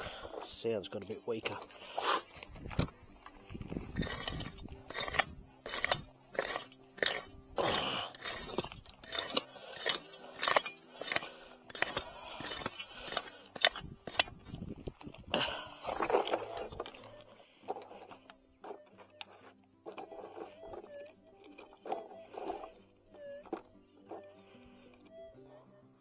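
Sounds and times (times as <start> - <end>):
pick striking stony ground: 0.0 - 24.4
gravel clinking and scraping: 0.0 - 25.6.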